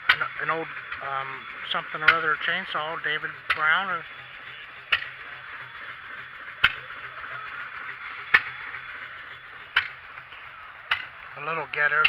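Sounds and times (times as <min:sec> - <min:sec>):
faint low machine hum: 0:00.0 - 0:12.0
hiss: 0:00.0 - 0:12.0.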